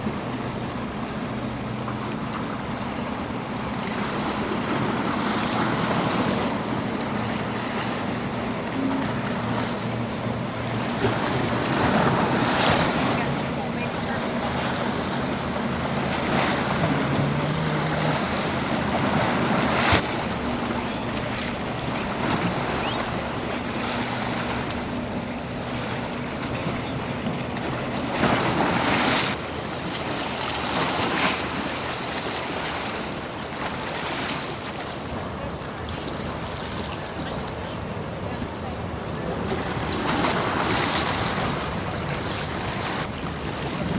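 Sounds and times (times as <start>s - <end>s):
boat engines droning: 0.0s - 43.9s
surf breaking against jetty: 0.0s - 43.9s.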